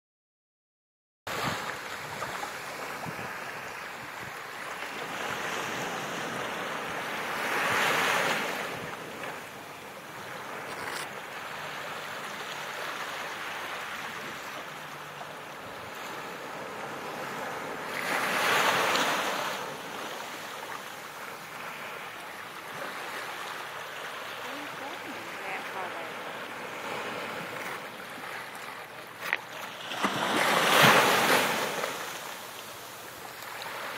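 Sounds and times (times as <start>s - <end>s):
small waves washing on beach: 1.3s - 33.9s.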